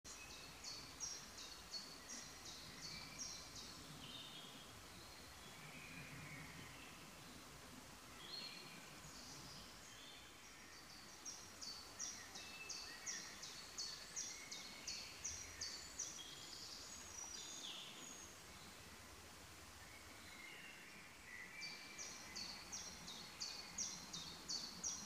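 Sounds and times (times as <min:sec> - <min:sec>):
faint birds chirping: 0:00.1 - 0:25.0.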